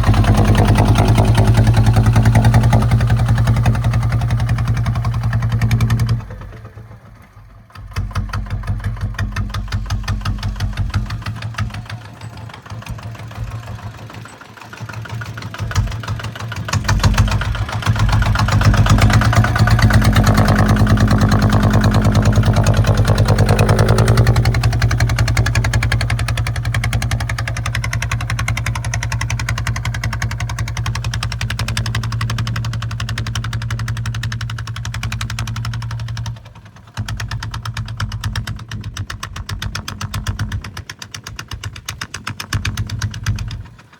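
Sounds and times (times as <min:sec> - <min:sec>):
diesel tractor engine chugging: 0:00.0 - 0:43.9.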